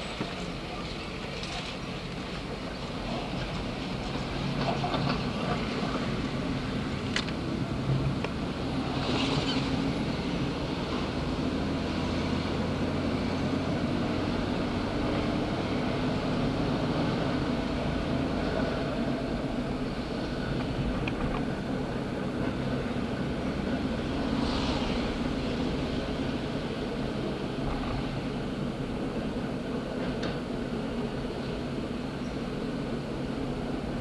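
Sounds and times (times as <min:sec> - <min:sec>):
car engine hum: 0:00.0 - 0:34.0.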